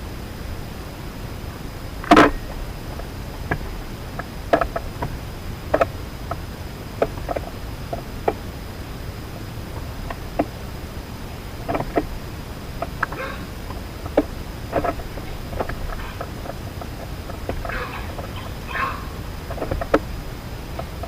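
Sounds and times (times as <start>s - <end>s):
outdoor hiss: 0.0s - 21.0s
birds tapping at feeder: 2.0s - 8.6s, 9.3s - 21.0s.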